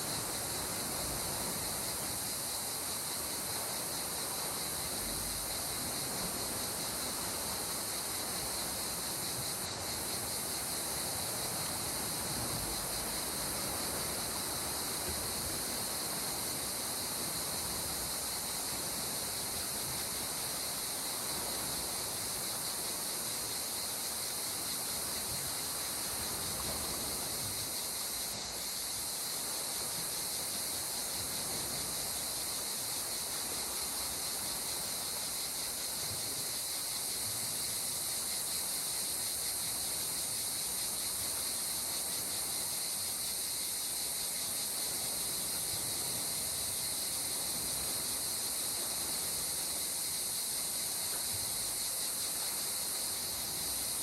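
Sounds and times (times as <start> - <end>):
calm sea water: 0.0 - 54.0
insects chirring: 0.0 - 54.0.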